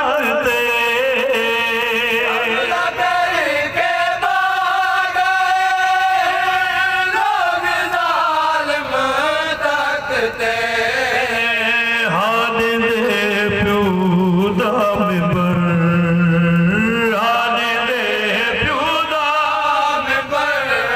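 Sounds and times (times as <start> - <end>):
man singing into a microphone: 0.0 - 20.9
men chanting in unison: 0.0 - 20.9.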